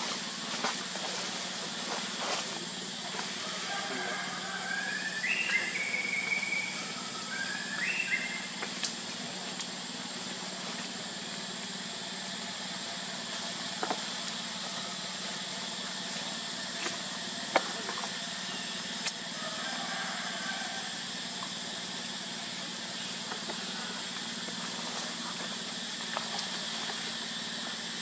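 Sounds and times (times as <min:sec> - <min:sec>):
outdoor background hum: 0:00.0 - 0:28.0.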